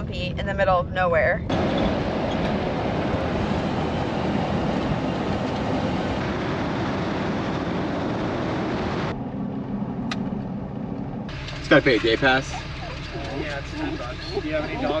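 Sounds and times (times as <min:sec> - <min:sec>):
engine hum: 0:00.0 - 0:15.0
tyre and road noise: 0:00.0 - 0:15.0.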